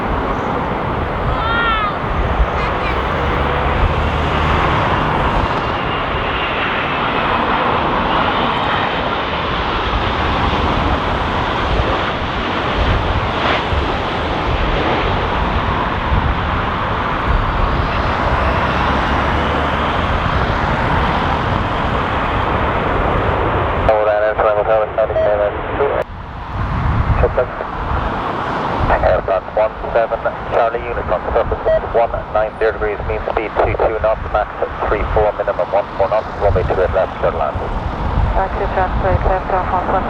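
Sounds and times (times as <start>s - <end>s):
wind buffeting microphone: 0.0s - 23.9s, 26.0s - 40.0s
jet engines roaring: 0.0s - 40.0s.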